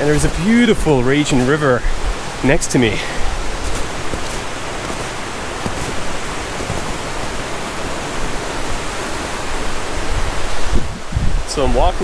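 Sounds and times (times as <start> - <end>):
river rushing whitewater: 0.0 - 10.8.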